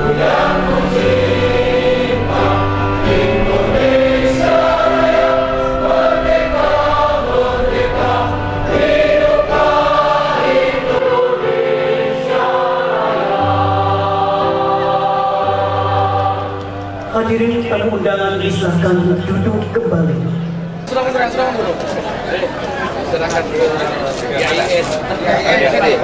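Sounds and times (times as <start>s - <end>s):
choir singing sustained chords: 0.0s - 22.2s.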